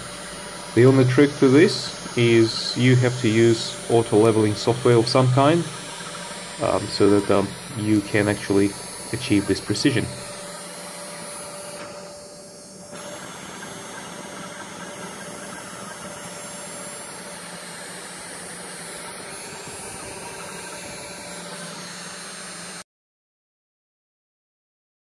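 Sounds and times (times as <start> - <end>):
router spindle hissing and humming: 0.0 - 22.8.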